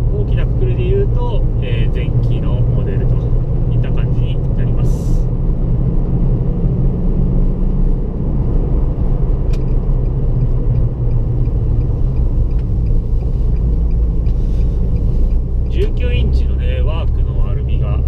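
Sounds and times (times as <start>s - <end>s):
car engine drone: 0.0s - 18.0s
road rumble: 0.0s - 18.0s.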